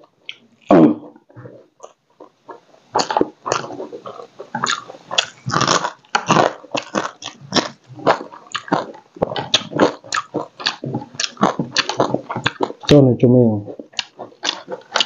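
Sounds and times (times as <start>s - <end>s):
man chewing crunchy food: 0.0s - 15.0s.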